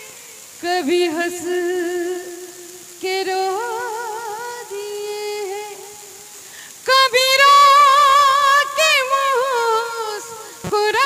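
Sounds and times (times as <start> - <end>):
woman singing into microphone: 0.0 - 11.0.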